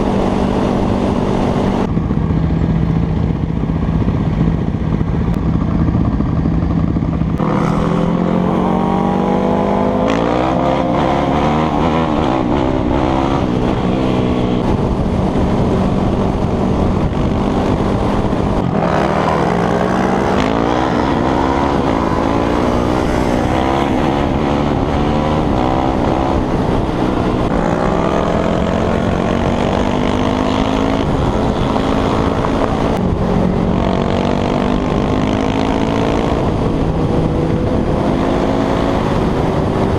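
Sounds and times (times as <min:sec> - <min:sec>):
motorcycle engine upshifting: 0:00.0 - 0:39.9.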